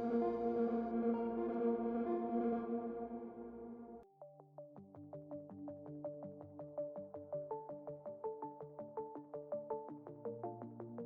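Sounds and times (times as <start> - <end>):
ambient guitar-like music: 0.0 - 11.0.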